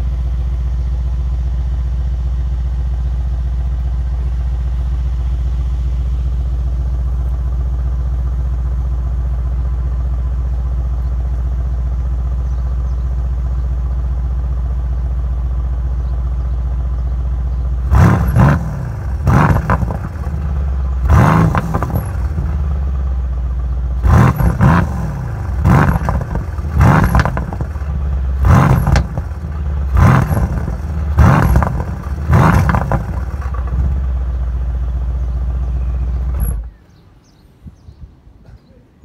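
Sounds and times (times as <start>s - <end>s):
car engine idling and revving: 0.0s - 38.5s.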